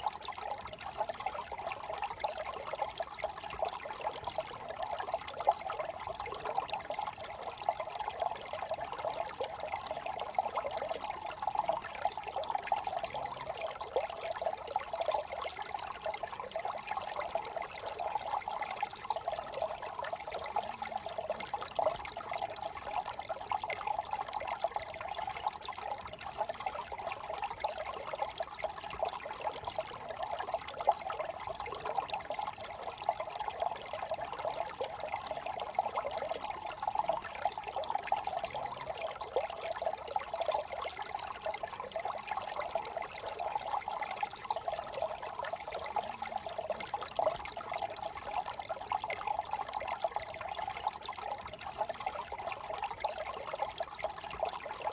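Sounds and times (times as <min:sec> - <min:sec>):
brook trickling and babbling: 0:00.0 - 0:54.9.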